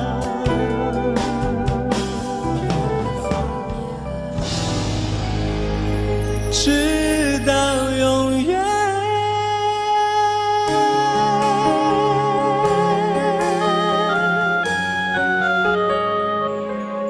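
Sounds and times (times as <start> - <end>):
struck chords accompaniment: 0.0 - 17.0.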